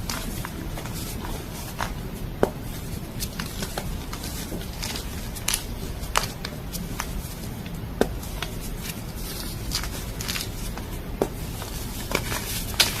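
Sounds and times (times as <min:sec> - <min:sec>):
chalk blocks snapping and crunching: 0:00.0 - 0:13.0.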